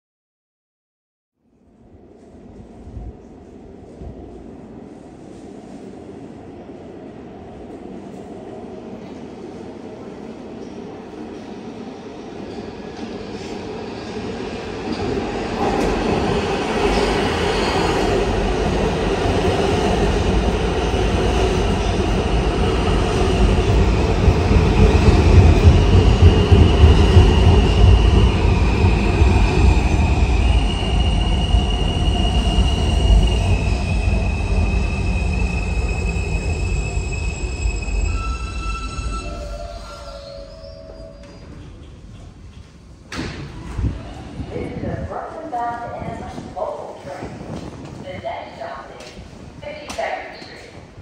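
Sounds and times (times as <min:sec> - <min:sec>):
subway train rumbling past: 0:01.4 - 0:51.0.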